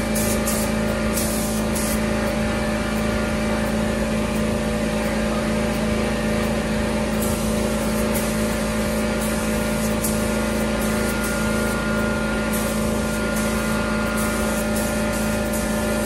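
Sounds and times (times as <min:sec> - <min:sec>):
air compressor humming: 0:00.0 - 0:16.0
spray gun hissing: 0:00.0 - 0:16.0.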